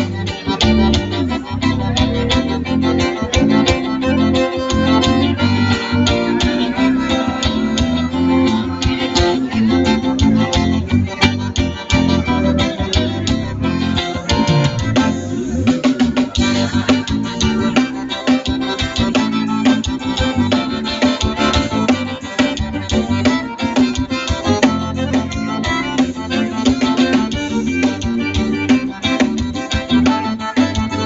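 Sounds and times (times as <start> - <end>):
live band through pa system: 0.0 - 31.0.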